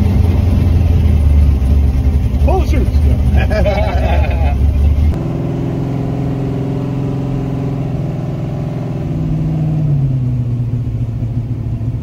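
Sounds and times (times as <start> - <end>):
race car engine at low revs: 0.0 - 12.0.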